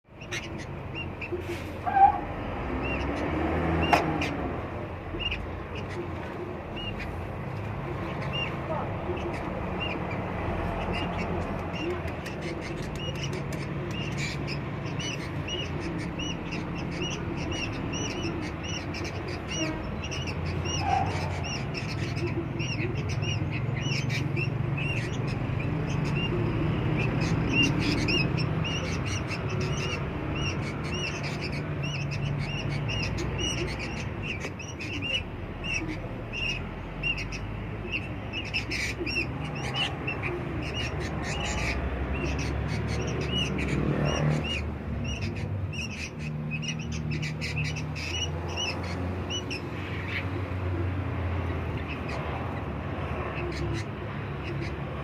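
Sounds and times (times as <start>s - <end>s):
bulbul chirping: 5.1s - 50.2s.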